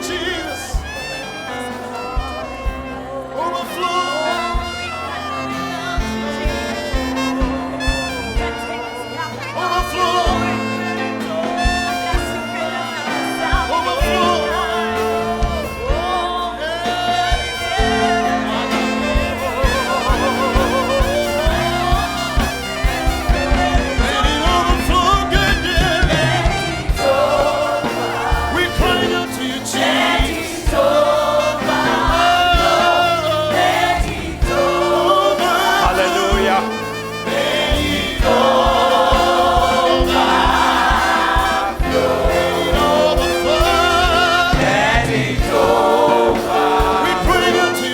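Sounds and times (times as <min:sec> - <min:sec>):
gospel choir singing: 0:00.0 - 0:47.9
live band playing: 0:00.0 - 0:47.9.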